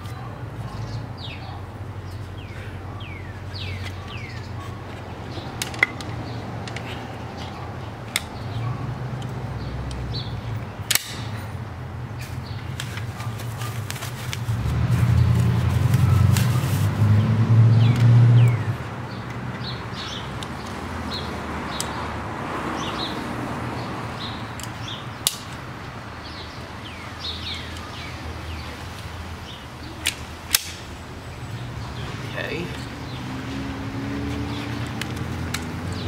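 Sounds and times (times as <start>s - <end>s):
small birds chirping: 0.0s - 10.9s, 17.7s - 36.0s.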